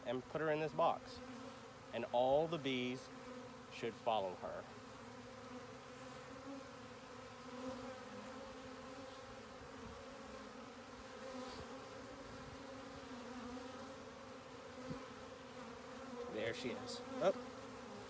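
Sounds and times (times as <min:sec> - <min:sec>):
bee swarm buzzing: 0:00.0 - 0:18.0.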